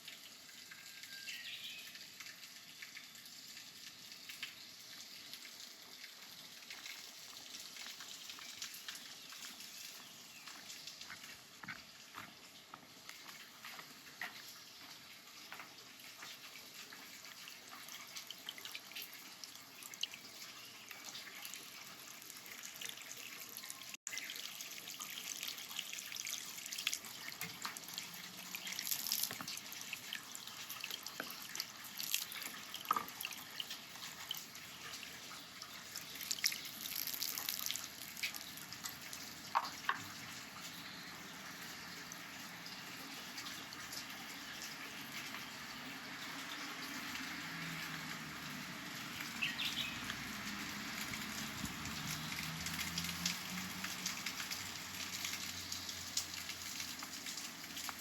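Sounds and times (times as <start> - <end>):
water running and splashing: 0.0 - 58.0.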